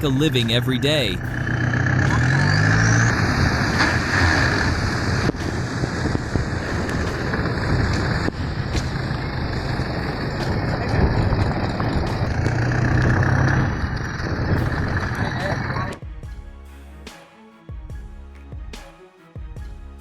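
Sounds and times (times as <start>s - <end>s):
boat engine humming: 0.0s - 16.0s
heavy wind: 0.0s - 16.2s.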